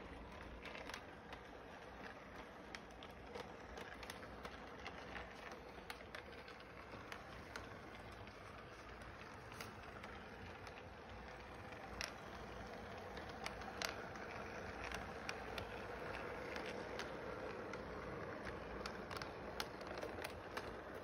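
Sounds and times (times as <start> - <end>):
toy train motor hum: 0.0 - 21.0
wheels clicking over rail joints: 0.0 - 21.0.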